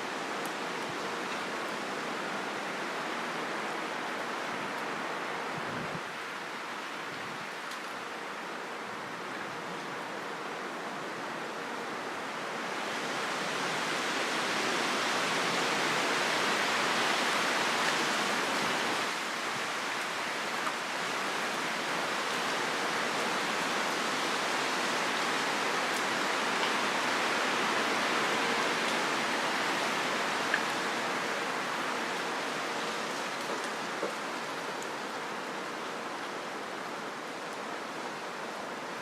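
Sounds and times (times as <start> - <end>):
wind rushing through trees: 0.0 - 39.0.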